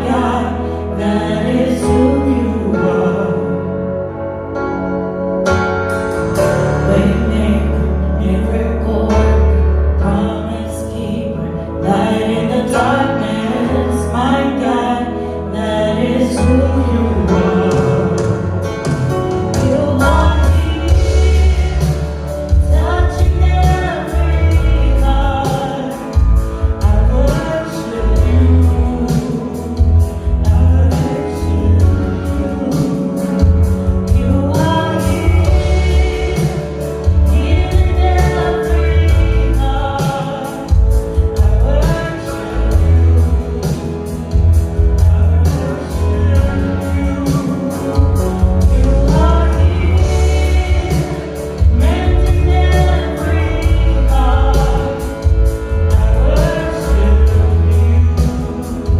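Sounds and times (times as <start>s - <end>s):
gospel song with band: 0.0s - 58.9s.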